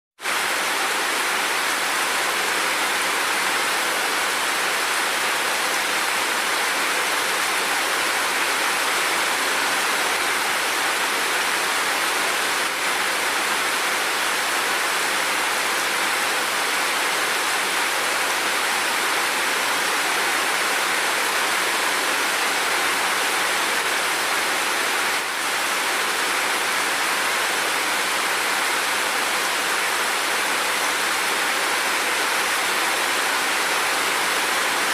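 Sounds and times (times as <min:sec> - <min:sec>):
steady rain hiss: 0:00.2 - 0:34.9.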